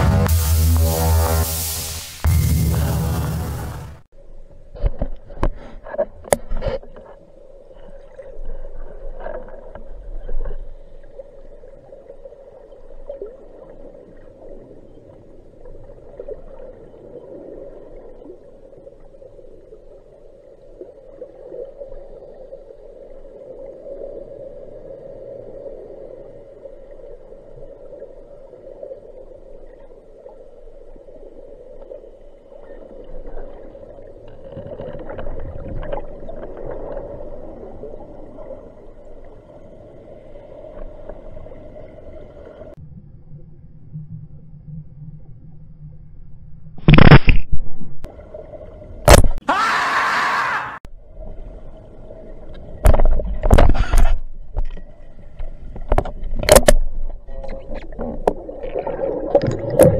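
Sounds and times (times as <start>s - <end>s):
hollow underwater drone: 0.0s - 47.0s, 47.9s - 49.1s, 50.8s - 59.9s
bumps and swishes of swimming: 0.0s - 50.0s, 50.8s - 59.9s.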